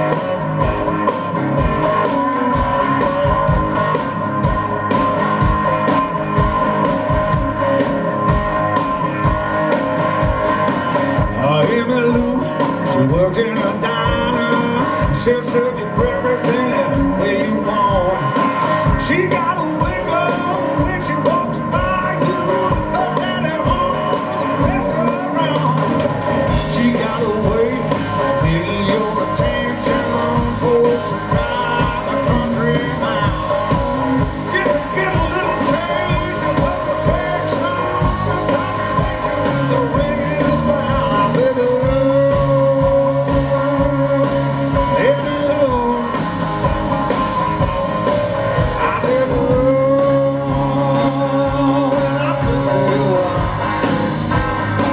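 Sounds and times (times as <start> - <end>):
person singing: 0.0 - 54.2
electric guitar: 0.0 - 54.9
live blues-rock band: 0.0 - 54.9.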